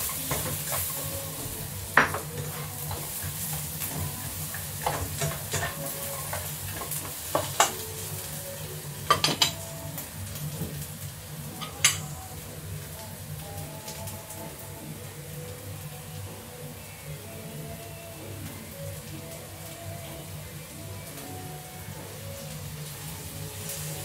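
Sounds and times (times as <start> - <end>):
pork sizzling in a wok: 0.0 - 24.0.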